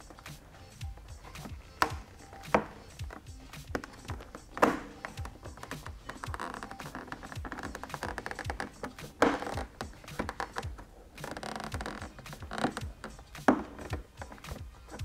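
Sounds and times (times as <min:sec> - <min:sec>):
plastic scraping on bodywork: 0:00.0 - 0:15.0.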